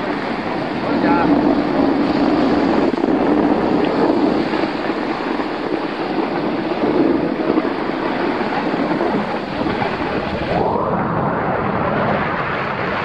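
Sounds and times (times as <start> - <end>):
skis sliding over snow: 0.0 - 10.6
wind on microphone: 0.0 - 13.0.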